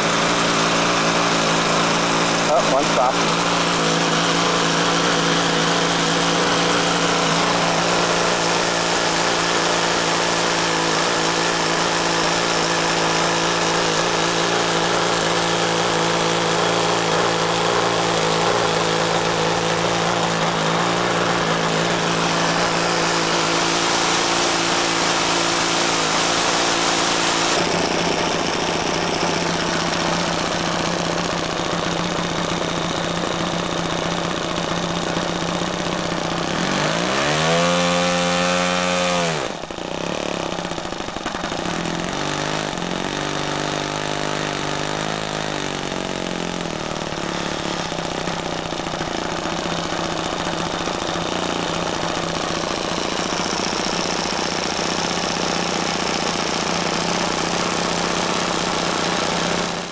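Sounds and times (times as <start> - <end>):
model airplane engines running: 0.0 - 59.9.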